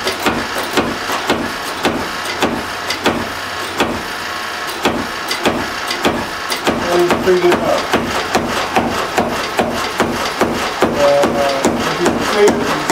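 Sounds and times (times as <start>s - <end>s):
power hammer striking wood: 0.0s - 12.9s
steady machine hum: 0.0s - 12.9s.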